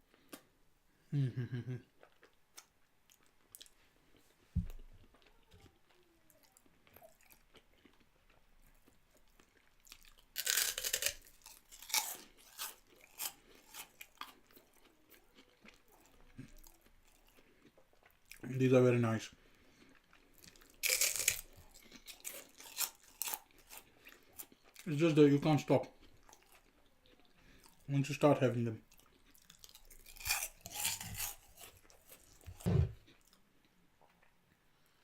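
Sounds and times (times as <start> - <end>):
chewing crunchy fried snacks: 2.0 - 4.3, 5.0 - 35.0.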